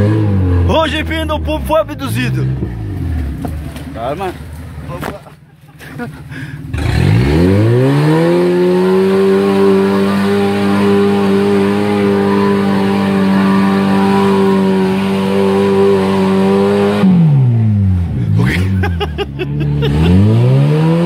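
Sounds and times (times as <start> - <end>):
off-road vehicle engine revving: 0.0 - 5.2, 5.9 - 21.0.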